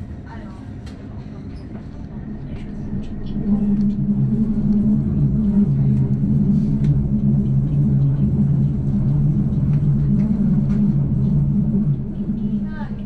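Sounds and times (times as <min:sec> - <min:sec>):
train rumble and hum: 0:00.0 - 0:13.0.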